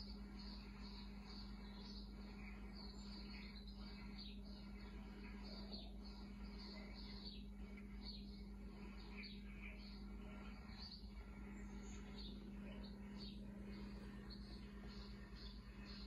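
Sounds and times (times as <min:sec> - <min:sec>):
faint bird chirps: 0:00.0 - 0:16.0
steady low hum: 0:00.0 - 0:16.0.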